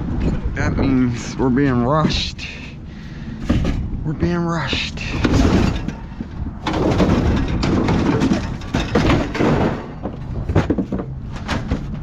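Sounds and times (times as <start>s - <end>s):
scrap clattering and thudding: 0.1s - 2.7s, 3.3s - 12.0s.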